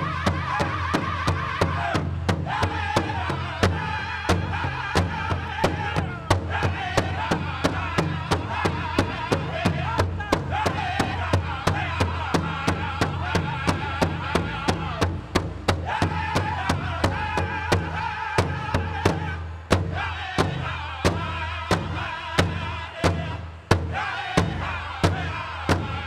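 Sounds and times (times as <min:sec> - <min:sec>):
group of singers: 0:00.0 - 0:26.0
large drum beating: 0:00.0 - 0:26.0.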